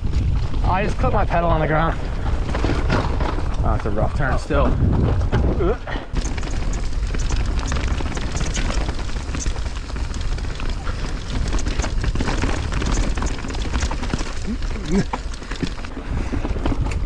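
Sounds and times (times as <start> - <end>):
mountain bike rattling on dirt trail: 0.0 - 17.0
wind buffeting microphone: 0.0 - 17.0.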